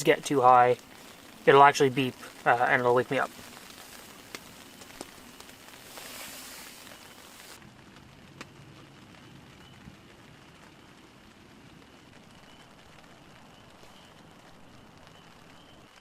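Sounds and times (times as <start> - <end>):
light rain on tent: 0.0 - 16.0.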